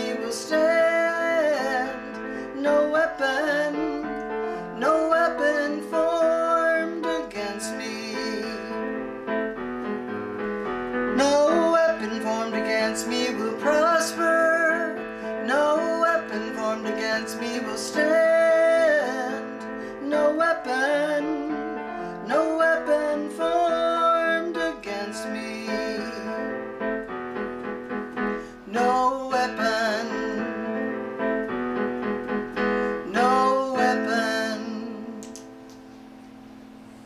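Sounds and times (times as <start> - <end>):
digital piano chords: 0.0 - 37.0.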